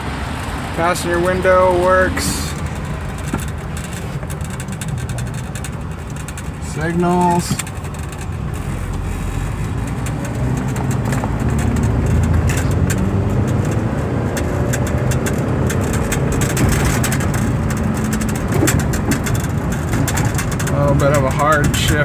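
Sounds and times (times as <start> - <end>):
car engine accelerating: 0.0 - 22.0
road noise: 0.0 - 22.0.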